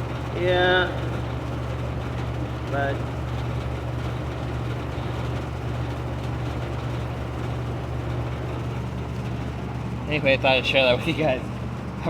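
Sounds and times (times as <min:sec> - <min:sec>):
heat pump low hum: 0:00.0 - 0:12.0.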